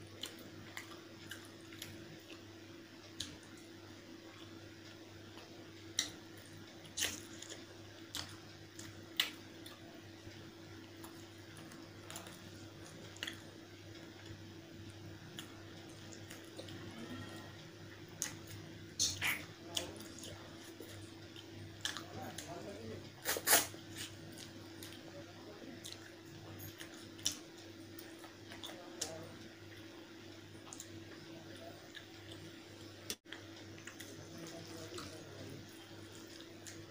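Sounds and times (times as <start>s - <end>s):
person chewing food: 0.0s - 29.9s, 30.5s - 36.9s
faint steady hum: 0.0s - 36.9s.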